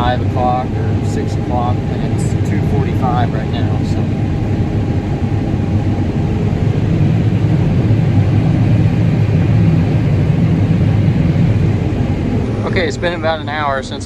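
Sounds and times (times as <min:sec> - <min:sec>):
combine harvester rumble: 0:00.0 - 0:14.0.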